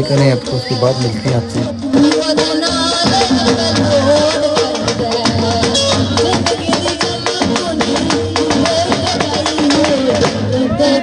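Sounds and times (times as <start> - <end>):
boy singing into a microphone: 0.0 - 11.0
dhol and hand drums beat: 0.0 - 11.0.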